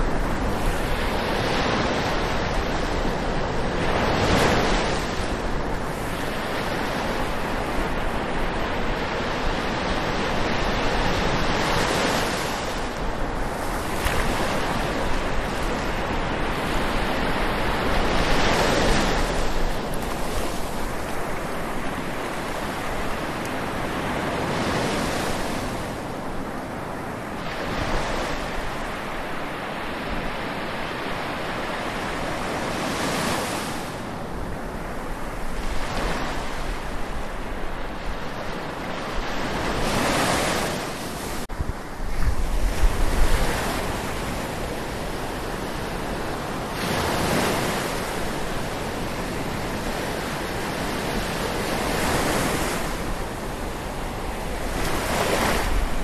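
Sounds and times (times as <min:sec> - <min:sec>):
ocean waves washing ashore: 0:00.0 - 0:56.0
wind buffeting microphone: 0:00.0 - 0:56.0.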